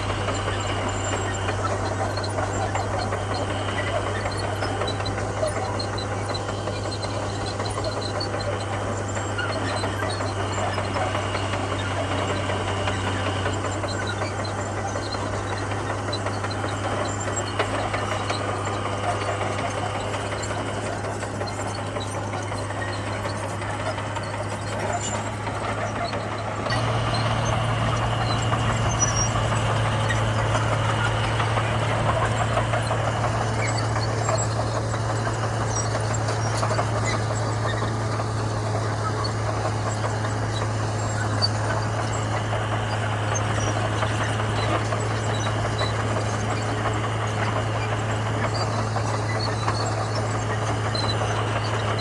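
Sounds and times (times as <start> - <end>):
diesel engine running with clatter: 0.0 - 52.0.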